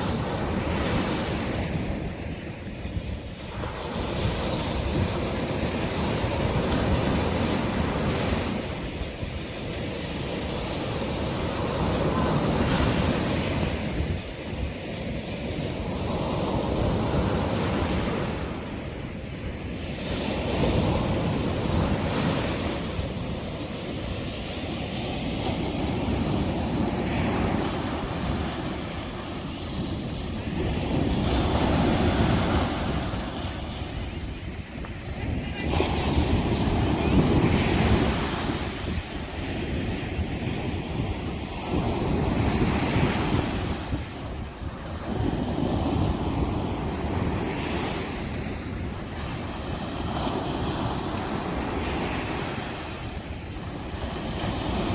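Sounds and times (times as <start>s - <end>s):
sea waves breaking on beach: 0.0s - 54.9s
wind on microphone: 0.0s - 54.9s.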